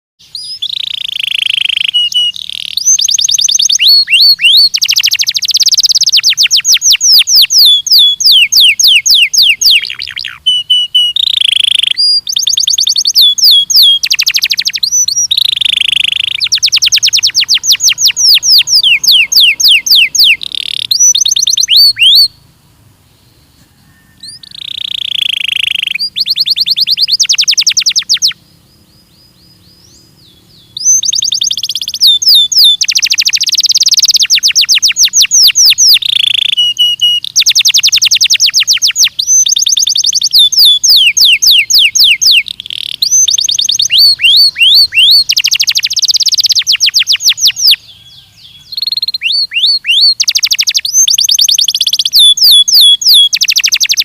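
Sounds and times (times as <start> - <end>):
canary singing trills: 0.2 - 22.5, 23.1 - 54.0.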